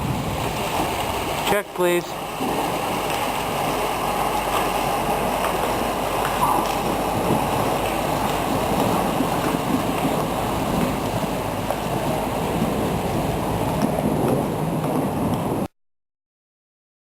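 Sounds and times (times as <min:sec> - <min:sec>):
heavy rain pouring: 0:00.0 - 0:15.7.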